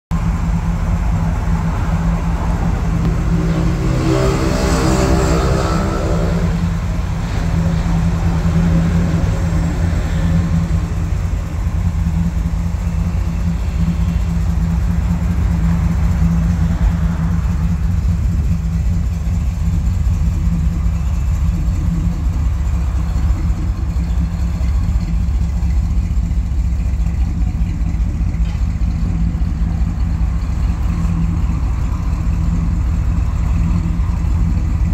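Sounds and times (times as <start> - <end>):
pickup engine idling: 0.1 - 34.9.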